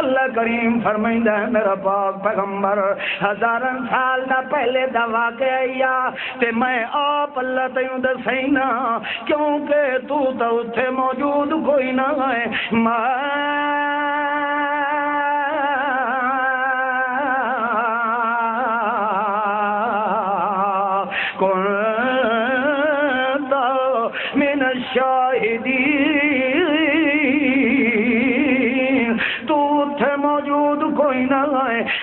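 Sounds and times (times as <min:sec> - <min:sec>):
man chanting: 0:00.0 - 0:32.0.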